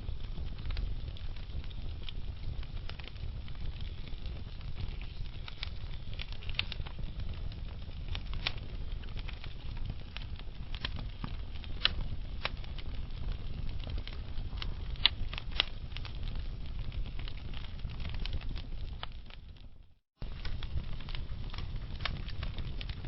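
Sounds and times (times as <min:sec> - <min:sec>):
logs crackling and popping: 0:00.0 - 0:23.0
low rumble of flame: 0:00.0 - 0:23.0.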